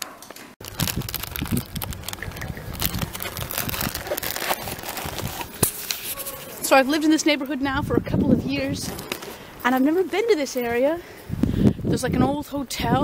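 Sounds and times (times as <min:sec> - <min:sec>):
wind buffeting microphone: 0:00.6 - 0:13.0.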